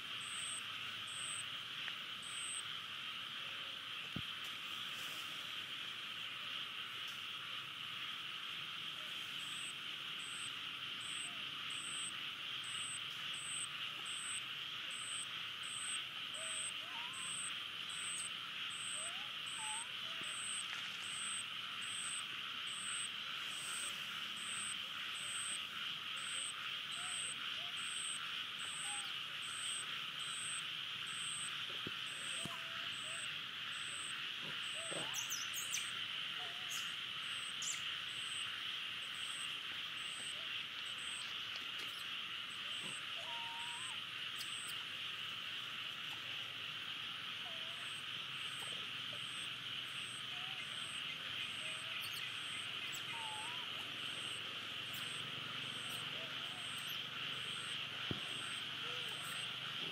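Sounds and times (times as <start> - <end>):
buzzing insect chorus: 0.0 - 59.9.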